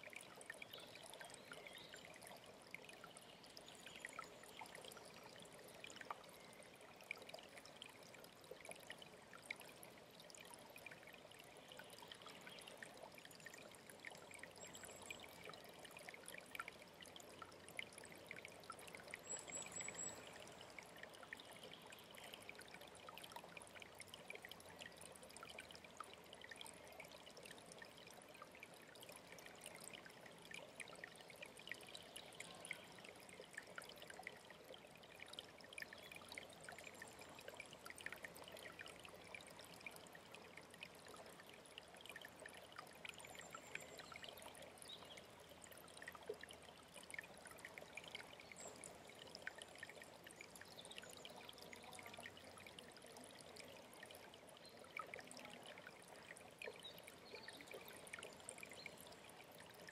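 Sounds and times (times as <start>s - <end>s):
faint stream trickling: 0.0s - 59.9s.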